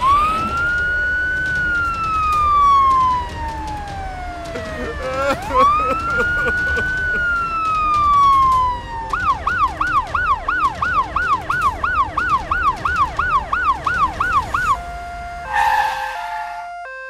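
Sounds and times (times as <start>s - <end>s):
ambulance siren: 0.0s - 17.0s.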